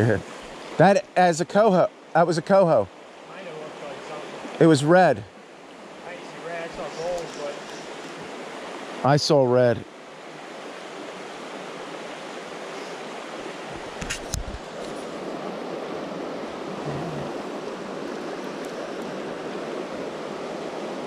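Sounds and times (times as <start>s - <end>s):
creek running over stones: 0.0s - 21.0s.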